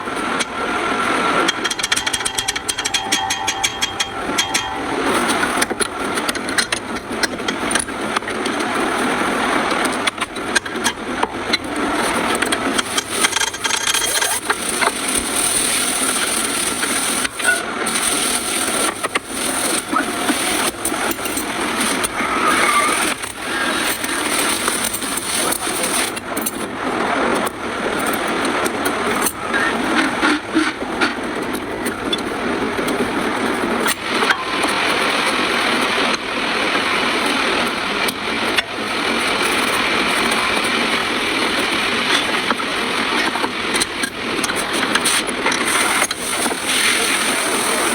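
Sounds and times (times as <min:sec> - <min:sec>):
car running: 0:00.0 - 0:47.9
scraping and rubbing noise: 0:00.2 - 0:47.9
scattered clicks: 0:01.3 - 0:47.9.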